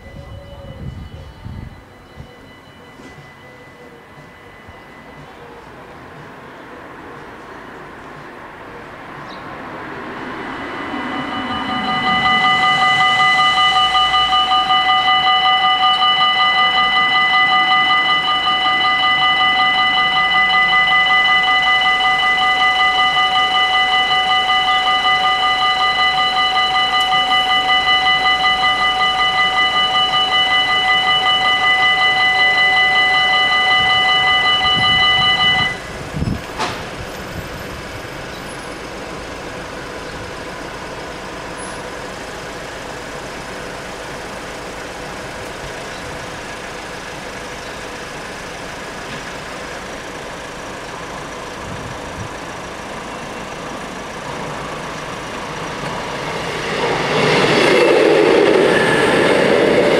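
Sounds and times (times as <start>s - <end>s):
approaching train: 0.0s - 59.9s
level crossing warning bells: 0.0s - 59.9s.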